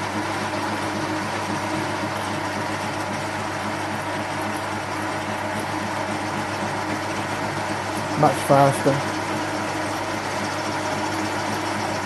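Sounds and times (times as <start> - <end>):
metal lathe droning: 0.0 - 12.0.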